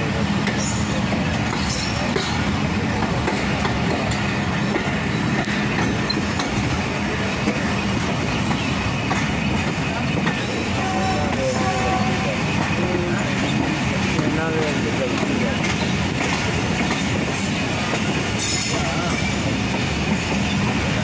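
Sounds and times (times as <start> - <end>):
train wheels running on rails: 0.0 - 21.0.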